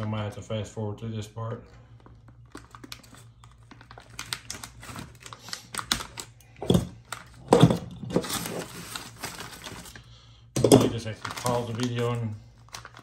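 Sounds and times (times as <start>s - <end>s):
plastic bag crinkling: 1.7s - 13.0s.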